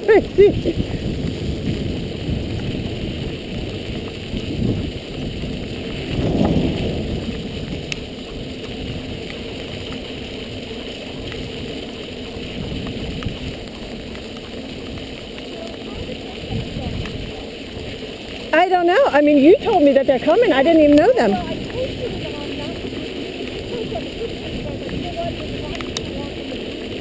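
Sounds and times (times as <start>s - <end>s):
wind on microphone: 0.0s - 13.8s, 15.9s - 18.0s, 18.9s - 27.0s
wheels rolling on wet pavement: 0.0s - 27.0s.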